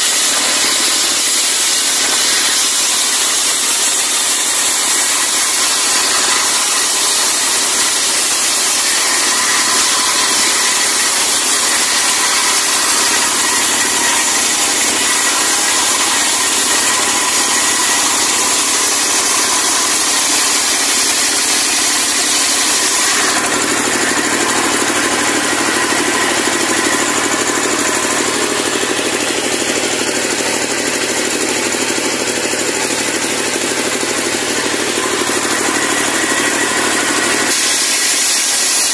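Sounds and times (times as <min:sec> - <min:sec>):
engine running: 0:00.0 - 0:38.4
circular saw blade ripping log: 0:00.0 - 0:38.9.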